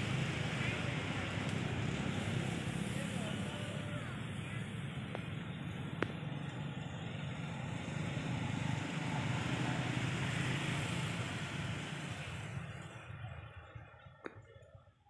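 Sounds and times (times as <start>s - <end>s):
passing vehicle engine rumble: 0.0s - 15.0s.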